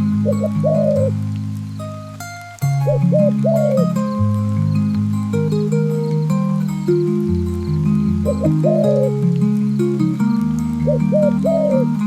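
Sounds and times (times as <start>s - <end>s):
mourning dove cooing: 0.0s - 1.4s, 2.6s - 4.7s, 5.8s - 12.0s
music of sustained chords: 0.0s - 12.0s.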